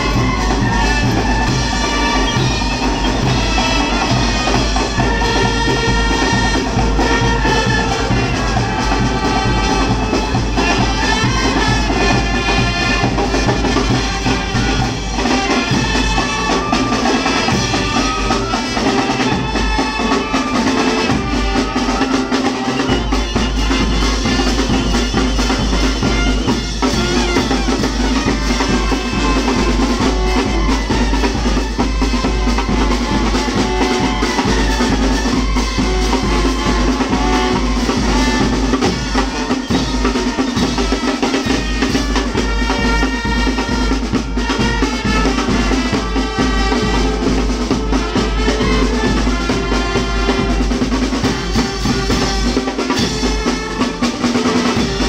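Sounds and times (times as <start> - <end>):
bass drum: 0.0 - 22.0, 22.8 - 55.0
brass instruments sustained notes: 0.0 - 55.0
snare drum: 0.0 - 55.0.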